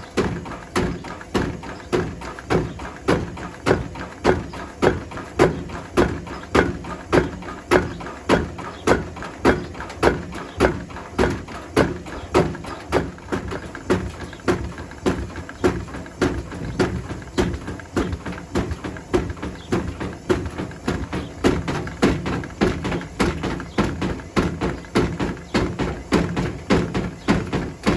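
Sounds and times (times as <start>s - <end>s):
bricks knocking in washing machine drum: 0.2s - 27.9s.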